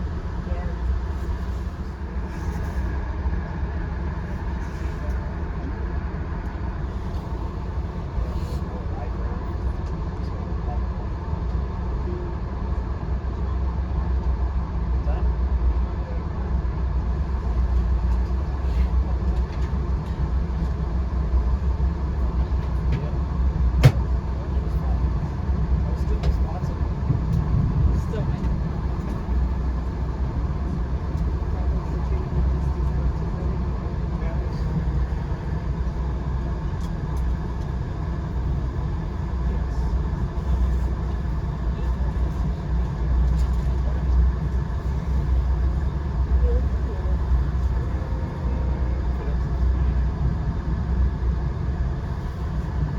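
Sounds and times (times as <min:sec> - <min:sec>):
train rumbling inside coach: 0:00.0 - 0:52.9.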